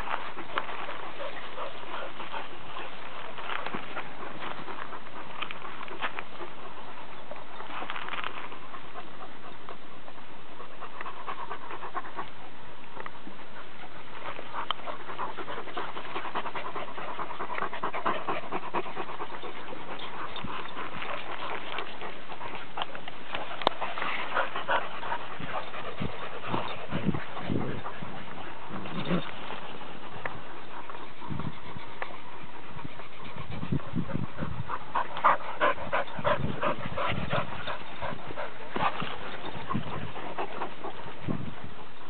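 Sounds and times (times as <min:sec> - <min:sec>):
dog panting: 0:00.0 - 0:42.0.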